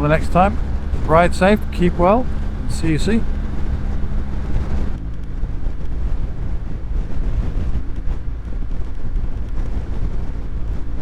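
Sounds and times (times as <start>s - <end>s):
motorcycle engine running: 0.0s - 9.9s
wind noise on microphone: 0.0s - 11.0s.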